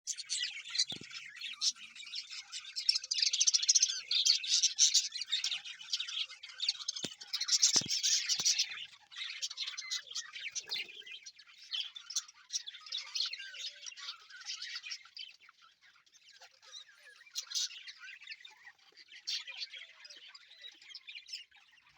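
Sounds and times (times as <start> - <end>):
budgerigars chirping: 0.1 - 21.9.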